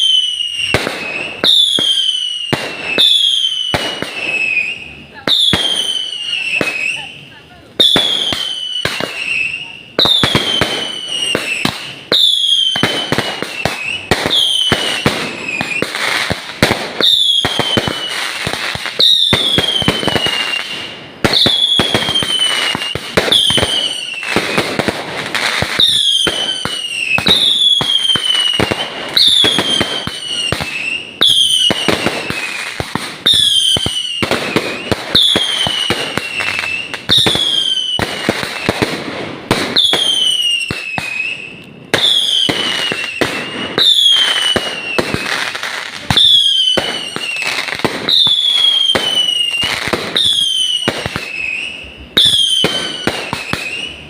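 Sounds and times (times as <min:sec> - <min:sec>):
firework whistle falling: 0:00.0 - 0:07.2, 0:07.8 - 0:38.9, 0:39.6 - 0:54.0
crackling firework bangs: 0:00.0 - 0:54.0.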